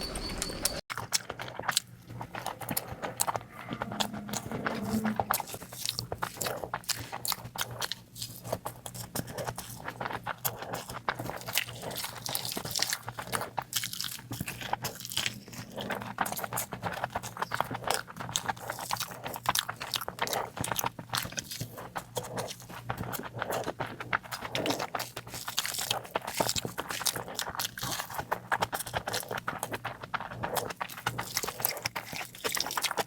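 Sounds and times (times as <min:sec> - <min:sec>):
person biting and chewing food: 0:00.9 - 0:33.0.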